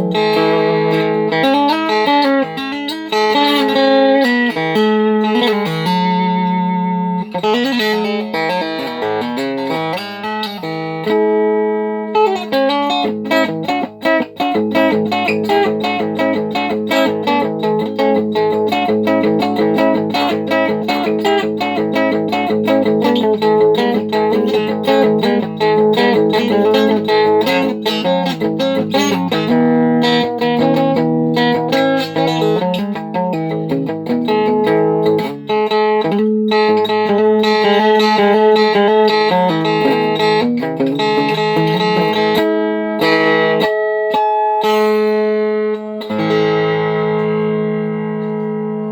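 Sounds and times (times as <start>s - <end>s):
plucked string instrument melody: 0.0s - 48.9s.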